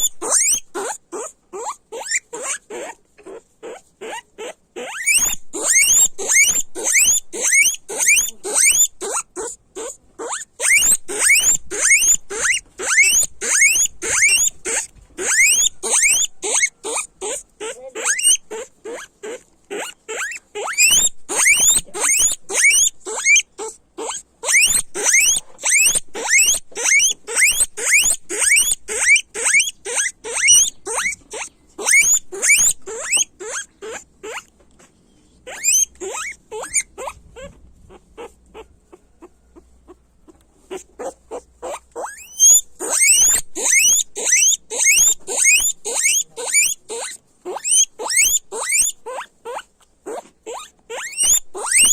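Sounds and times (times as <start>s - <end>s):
guinea pigs squealing: 0.0s - 34.5s, 35.4s - 51.9s.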